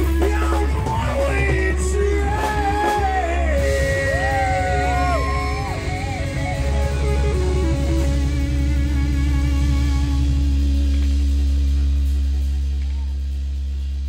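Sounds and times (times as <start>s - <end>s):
blues-rock band playing: 0.0s - 13.2s
descending electric guitar run: 0.0s - 14.0s.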